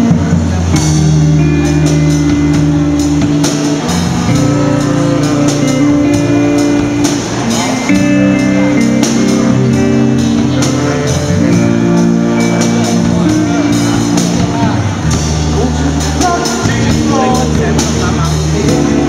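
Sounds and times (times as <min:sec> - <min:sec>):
bass guitar: 0:00.0 - 0:19.0
drum kit beat: 0:00.0 - 0:19.0
electric guitars: 0:00.0 - 0:19.0.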